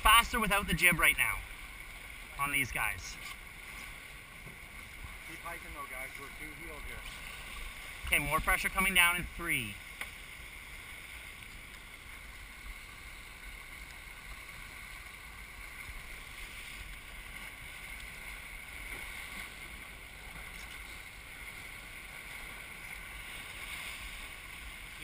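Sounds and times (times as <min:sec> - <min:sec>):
water rushing along hull: 0:00.0 - 0:25.0
wind: 0:00.0 - 0:25.0.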